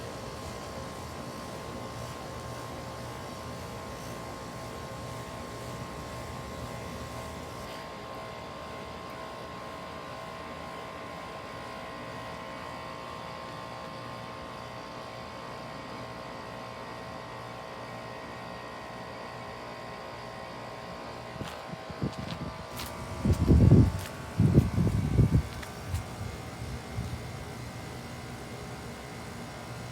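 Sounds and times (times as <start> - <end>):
heat pump compressor hum: 0.0 - 29.9.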